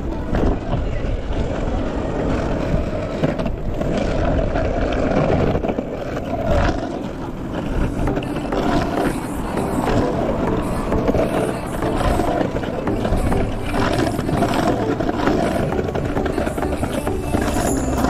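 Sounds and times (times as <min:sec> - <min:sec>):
longboard wheels rolling on pavement: 0:00.0 - 0:18.0.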